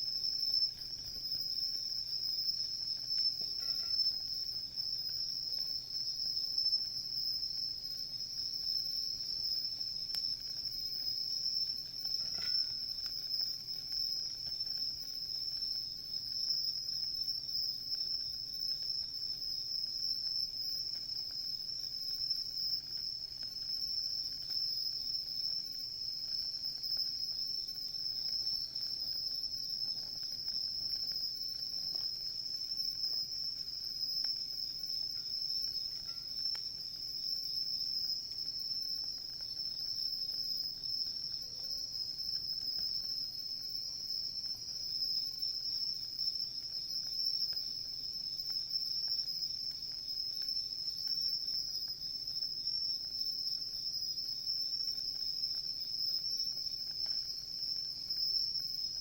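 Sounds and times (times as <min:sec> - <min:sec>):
crickets chirping: 0:00.0 - 0:59.0
wood fire crackling: 0:00.0 - 0:59.0.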